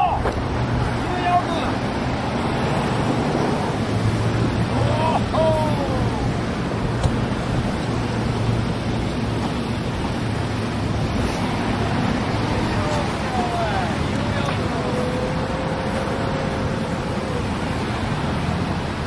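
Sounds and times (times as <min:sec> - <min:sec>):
car road noise: 0:00.0 - 0:19.0
engine and tyre hum: 0:00.0 - 0:19.0
wind buffeting microphone: 0:00.0 - 0:19.0.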